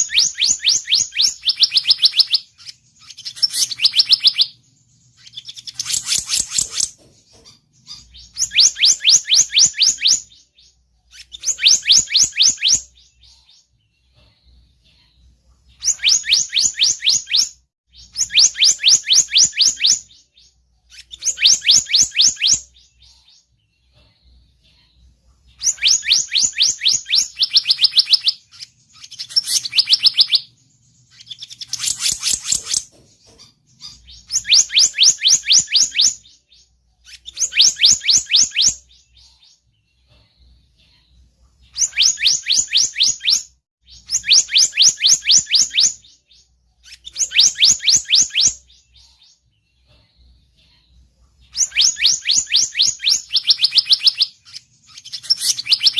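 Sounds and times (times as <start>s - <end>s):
bird chirping rapidly: 0.0s - 14.6s, 15.7s - 23.9s, 25.5s - 40.1s, 41.6s - 49.7s, 51.4s - 55.9s.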